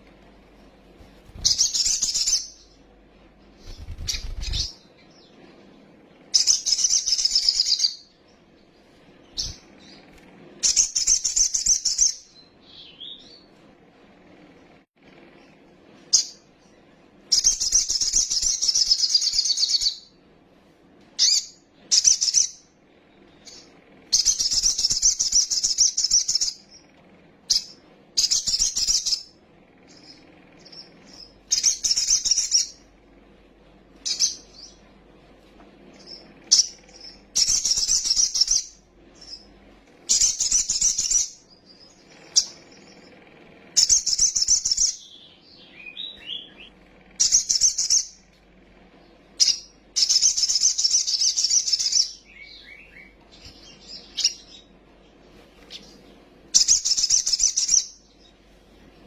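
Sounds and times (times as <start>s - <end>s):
bird chattering song: 1.3s - 2.8s, 3.5s - 5.5s, 6.3s - 8.5s, 9.2s - 13.5s, 16.1s - 20.1s, 21.2s - 32.9s, 34.0s - 34.8s, 35.9s - 48.3s, 49.0s - 54.8s, 55.6s - 58.4s.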